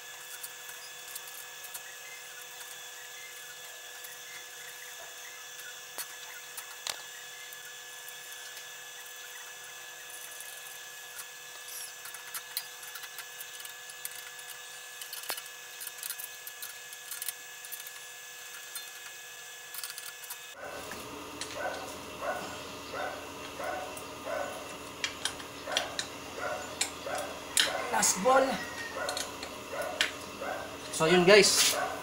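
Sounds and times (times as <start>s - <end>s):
high-pitched machine whine: 0.0s - 32.0s.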